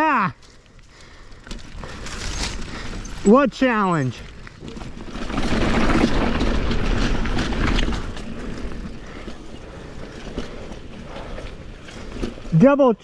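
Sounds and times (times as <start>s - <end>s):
bike tyres on dirt: 0.0s - 13.0s
rattling clicks from bike: 0.4s - 12.5s.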